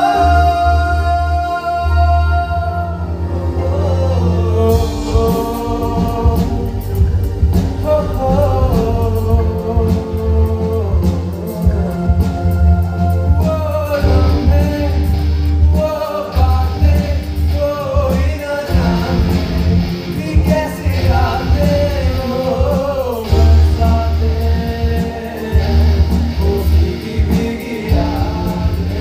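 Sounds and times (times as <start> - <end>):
drums: 0.0 - 29.0
heavy bass line: 0.0 - 29.0
person singing: 0.0 - 29.0
electric guitars: 2.9 - 29.0.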